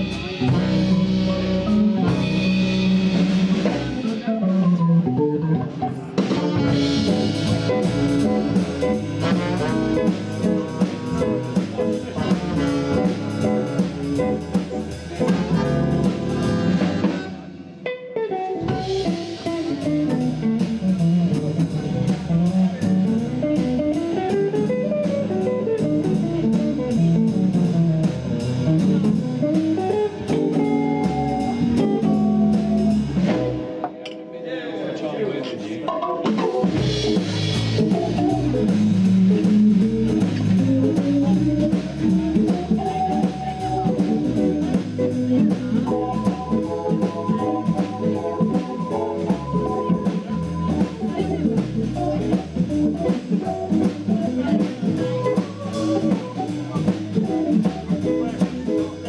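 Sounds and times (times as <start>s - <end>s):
drum kit cymbal beat: 0.0s - 4.9s, 6.0s - 17.9s, 18.6s - 34.2s, 36.0s - 59.0s
bass: 0.0s - 34.0s, 35.5s - 59.0s
guitar playing swing: 0.0s - 59.0s.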